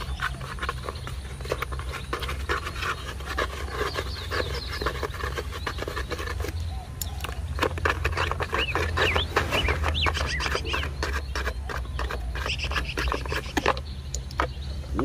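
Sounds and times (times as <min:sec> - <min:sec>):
packaging clicks and scrapes: 0:00.0 - 0:14.6
birds chirping: 0:00.0 - 0:15.0.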